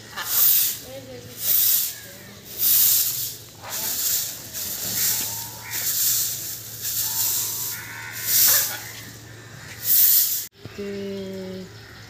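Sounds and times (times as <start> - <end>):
peacock feathers rustling: 0.1 - 10.5.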